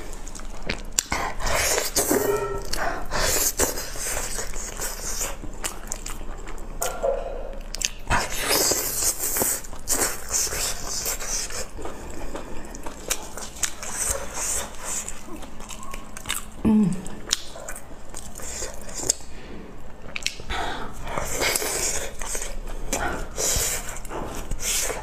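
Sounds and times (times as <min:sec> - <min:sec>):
person chewing with wet smacks: 0:00.1 - 0:19.3, 0:20.0 - 0:25.0.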